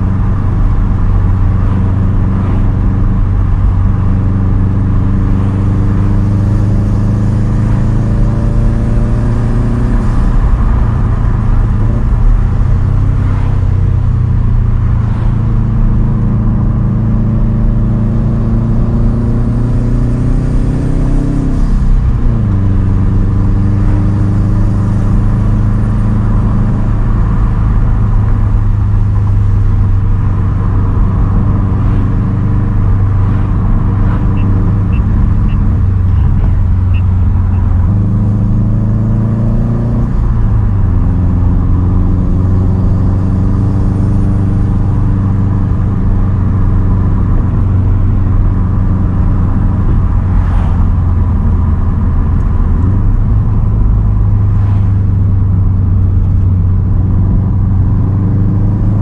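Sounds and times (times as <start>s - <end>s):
loud car engine cruising: 0.0s - 59.0s.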